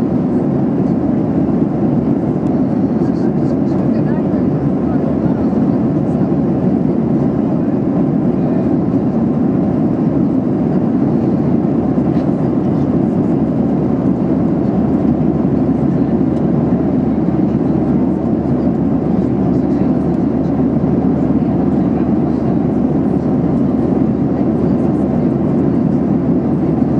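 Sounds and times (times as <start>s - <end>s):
airplane cabin noise: 0.0s - 26.9s.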